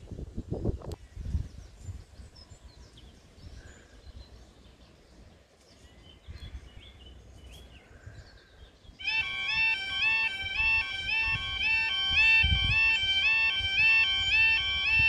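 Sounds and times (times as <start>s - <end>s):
wind rumble on microphone: 0.0s - 15.0s
small birds chirping: 0.5s - 12.6s.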